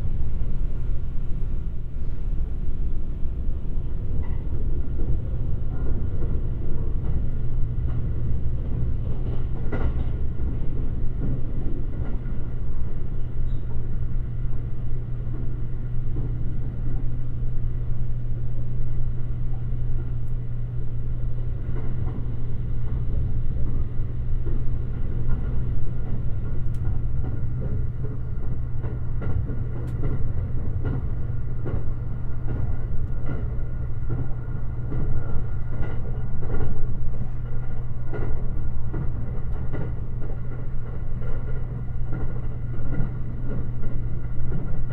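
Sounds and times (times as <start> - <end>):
train low rumble: 0.0 - 44.9.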